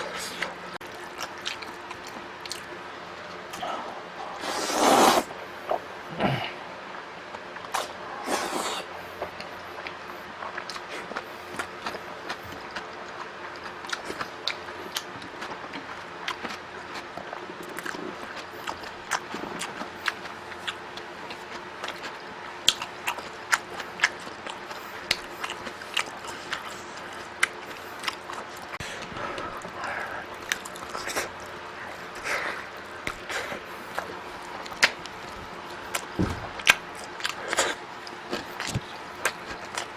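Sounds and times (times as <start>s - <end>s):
person chewing food: 0.0s - 6.4s, 7.3s - 39.9s.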